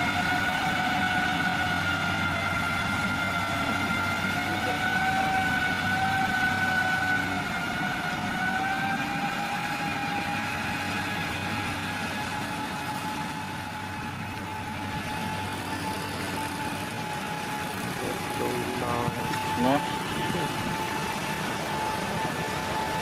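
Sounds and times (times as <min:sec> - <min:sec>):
heavy machine engine running: 0:00.0 - 0:23.0
high whine: 0:00.0 - 0:23.0.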